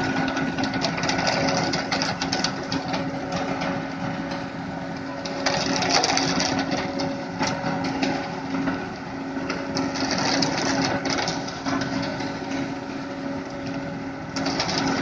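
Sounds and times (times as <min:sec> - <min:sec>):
concrete mixer truck engine humming: 0:00.0 - 0:15.0
rough mechanical noise with knocks: 0:00.0 - 0:15.0.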